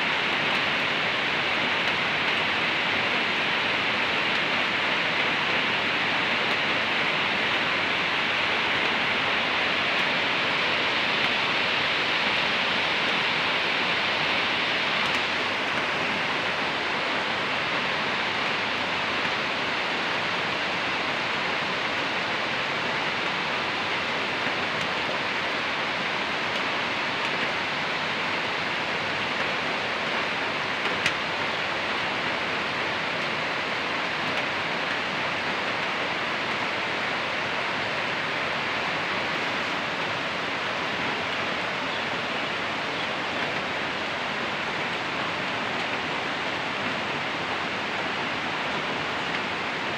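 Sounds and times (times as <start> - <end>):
heavy rain on metal roofs: 0.0 - 49.9.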